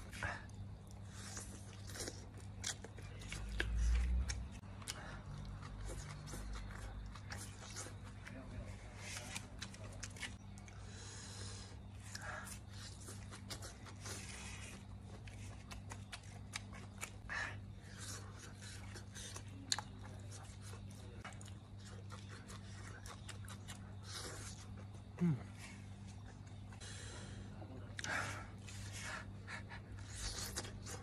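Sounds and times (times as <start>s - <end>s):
person chewing food: 0.0s - 8.4s, 9.2s - 31.0s
steady low hum: 0.0s - 31.0s.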